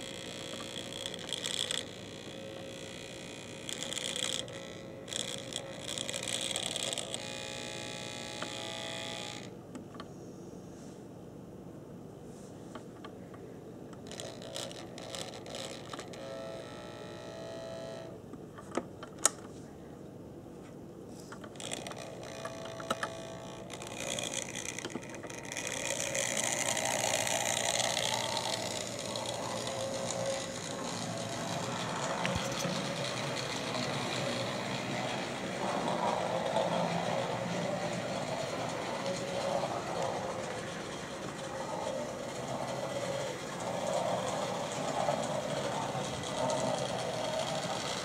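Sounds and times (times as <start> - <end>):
model locomotive motor whirring: 0.0 - 9.6, 13.9 - 18.2, 21.4 - 48.0.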